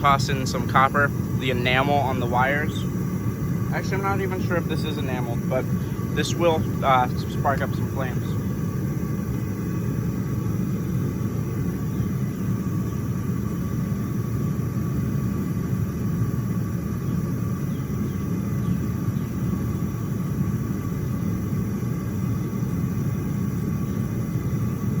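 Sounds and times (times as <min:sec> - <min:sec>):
propane burner rushing: 0:00.0 - 0:25.0.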